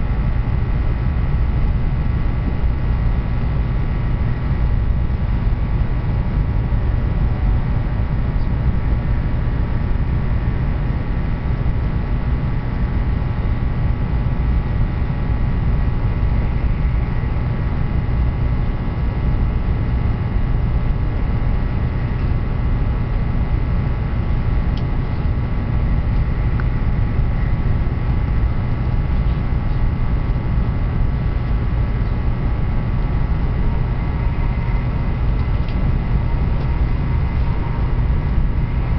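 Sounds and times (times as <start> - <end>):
faint train whine: 0.0 - 38.9
train rumbling: 0.0 - 38.9.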